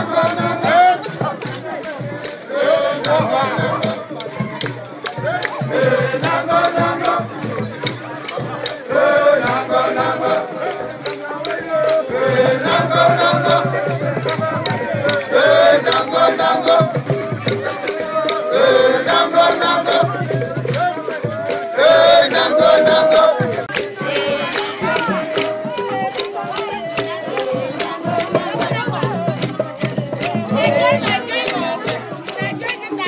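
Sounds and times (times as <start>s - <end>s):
group of voices chanting: 0.0s - 33.0s
hand rattles shaken: 0.0s - 33.0s.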